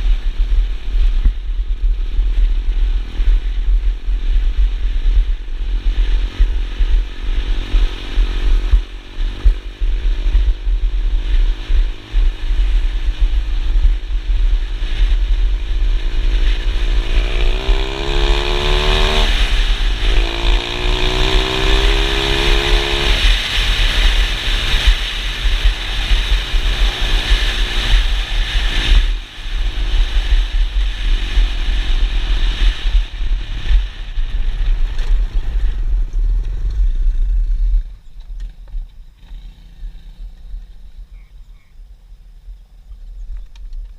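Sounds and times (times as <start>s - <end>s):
wind buffeting microphone: 0.0s - 39.2s
pit bike engine revving: 2.4s - 38.1s, 39.1s - 41.1s.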